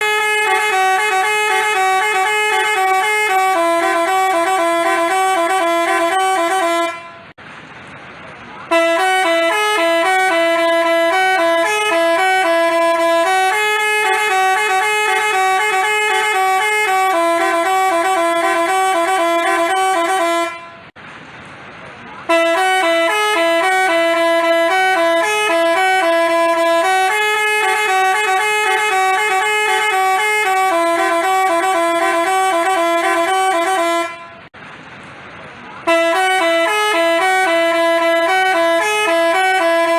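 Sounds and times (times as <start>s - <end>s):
multi-tone bus horn tune: 0.0s - 7.4s, 8.6s - 21.0s, 22.2s - 34.6s, 35.8s - 39.9s.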